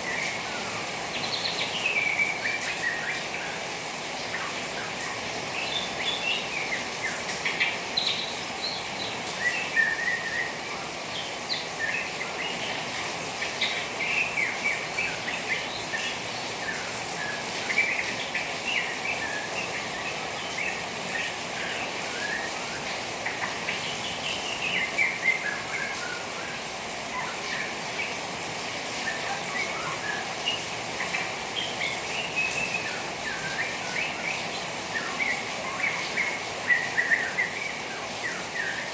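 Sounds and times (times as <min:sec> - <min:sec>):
falling water hiss: 0:00.0 - 0:38.9.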